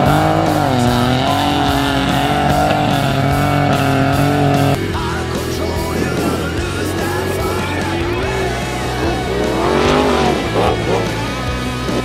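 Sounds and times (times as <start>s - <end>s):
rock music with electric guitar: 0.0s - 12.0s
truck engine running hard: 0.0s - 12.0s.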